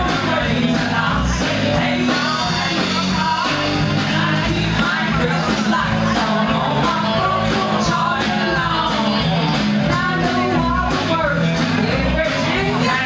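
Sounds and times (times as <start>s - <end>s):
country-rock band playing: 0.0s - 13.0s
woman singing: 0.0s - 13.0s.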